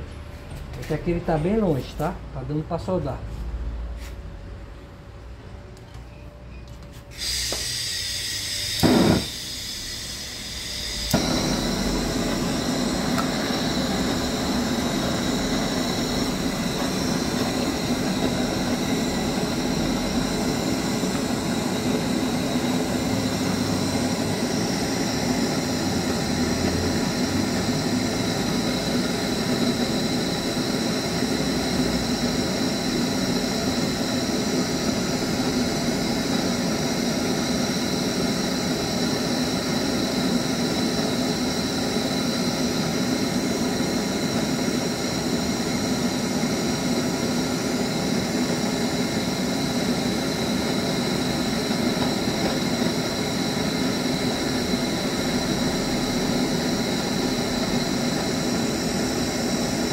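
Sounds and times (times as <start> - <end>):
gas torch flame roaring hiss: 6.9 - 59.9.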